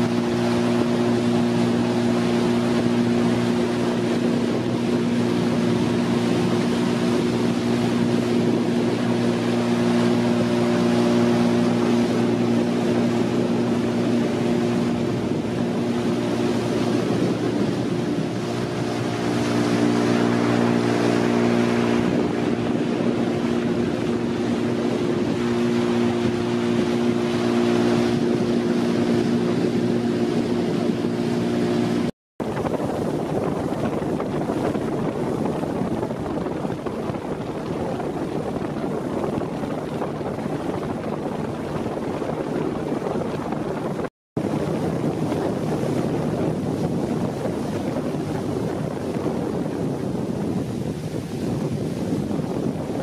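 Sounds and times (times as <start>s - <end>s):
motorboat engine running: 0.0s - 53.0s
rushing water: 0.0s - 53.0s
wind on microphone: 0.0s - 53.0s.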